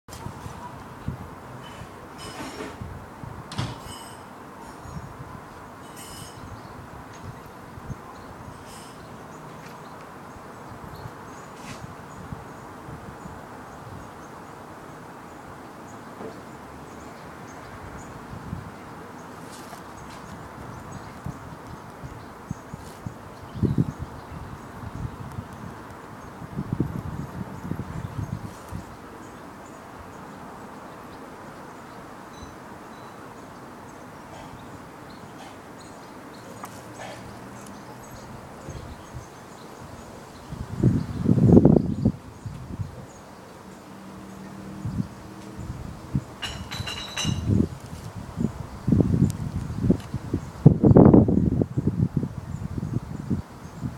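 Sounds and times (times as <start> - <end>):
outdoor background noise: 0.1 - 53.9.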